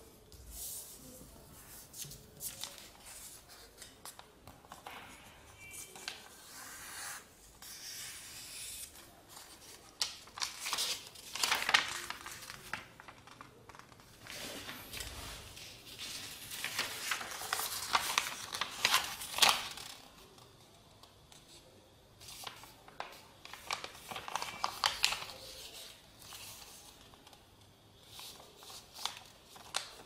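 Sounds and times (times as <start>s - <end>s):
paper rustling and crackling: 0.4s - 5.2s, 8.8s - 30.0s.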